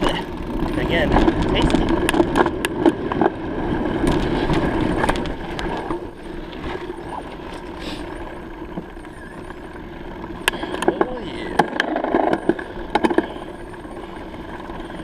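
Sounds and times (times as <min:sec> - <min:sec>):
sharp clicks and rattles: 0:00.0 - 0:09.7, 0:10.3 - 0:15.0
bicycle tyres rolling: 0:00.0 - 0:15.0.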